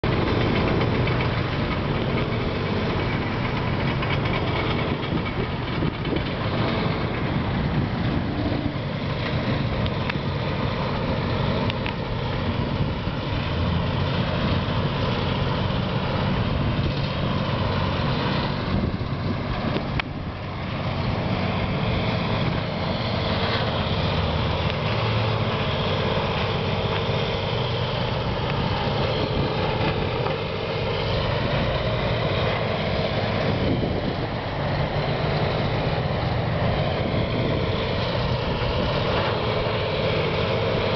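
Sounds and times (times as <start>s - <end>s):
machinery engine running: 0.0s - 40.9s.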